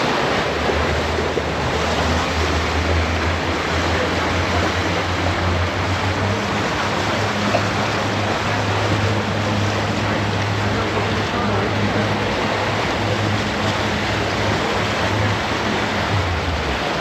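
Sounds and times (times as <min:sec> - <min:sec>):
motorboat engine droning: 0:00.0 - 0:17.0
water rushing along hull: 0:00.0 - 0:17.0.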